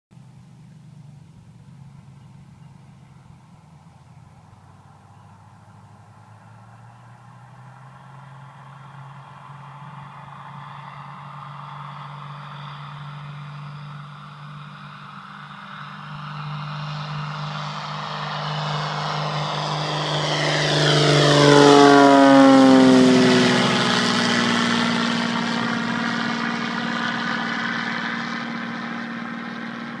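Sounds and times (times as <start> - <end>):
propeller plane engine passing: 0.1 - 30.0.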